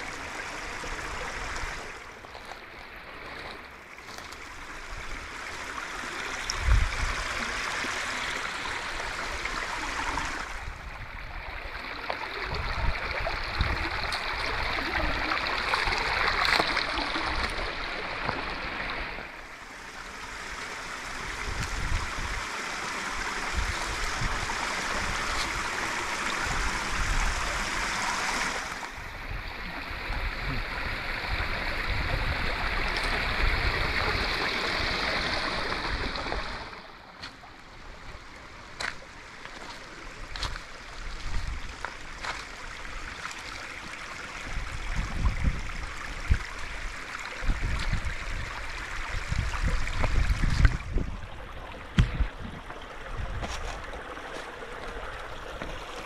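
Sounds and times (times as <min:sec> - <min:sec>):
creek babbling over rocks: 0:00.0 - 0:56.0.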